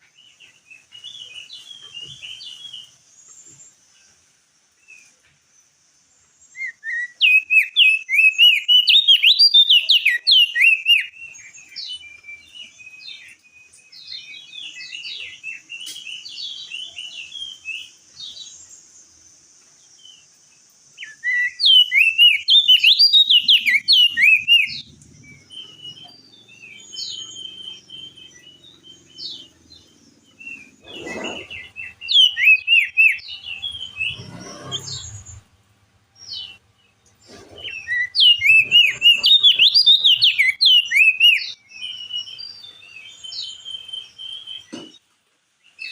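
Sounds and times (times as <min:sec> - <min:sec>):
faint high hiss: 0:00.0 - 0:39.2
bird chirping: 0:00.0 - 0:45.9.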